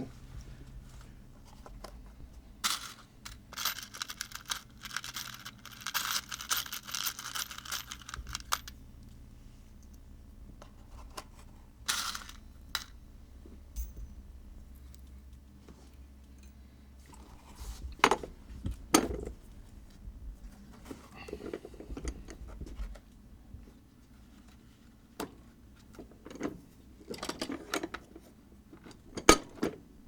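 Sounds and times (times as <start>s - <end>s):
rustling and scraping handling noise: 0.0s - 9.9s, 10.5s - 14.2s, 17.0s - 29.0s
steady low hum: 0.0s - 25.8s.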